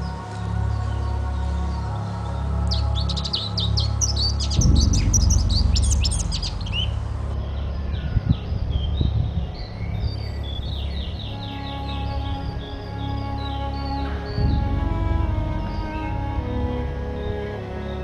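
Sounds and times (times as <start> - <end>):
songbirds chirping and trilling: 0.0 - 18.0
steady low drone: 0.0 - 18.0.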